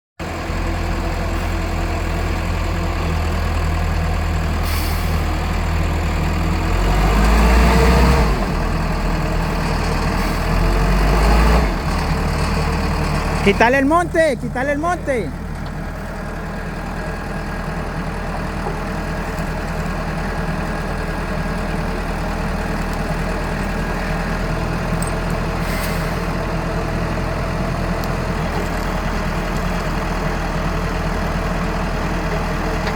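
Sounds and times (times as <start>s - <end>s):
diesel engine running: 0.2s - 32.9s.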